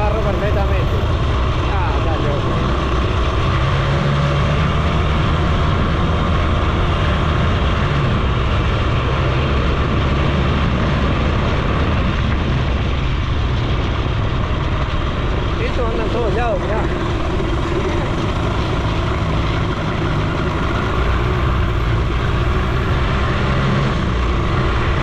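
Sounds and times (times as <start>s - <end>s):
moped engine running: 0.0s - 25.0s
road noise: 0.0s - 25.0s.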